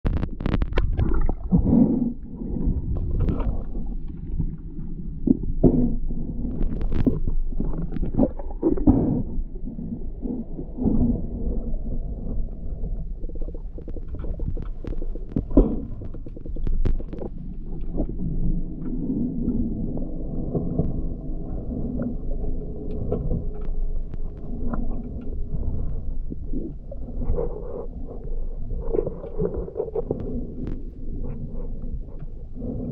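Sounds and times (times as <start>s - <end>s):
faint steady hum: 0.0s - 32.9s
muffled underwater water rumble: 0.0s - 32.9s.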